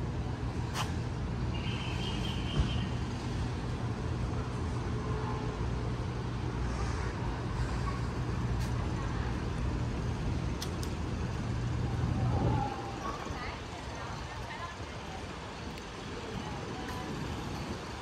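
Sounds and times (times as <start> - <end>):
city traffic hum: 0.0 - 18.0.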